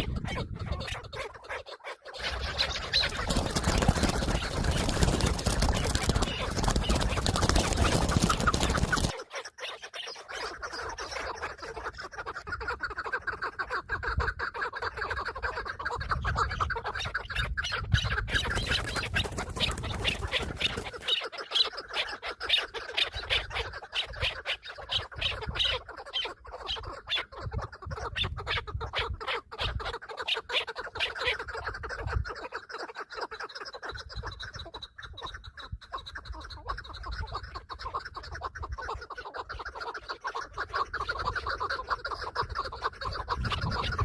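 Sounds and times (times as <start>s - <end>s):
partridge clucking calls: 0.0s - 44.0s.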